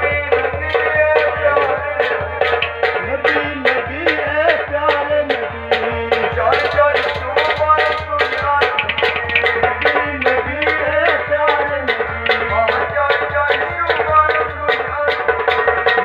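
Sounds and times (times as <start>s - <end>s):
barrel hand drum beat: 0.0s - 16.0s
harmonium reed chords: 0.0s - 16.0s.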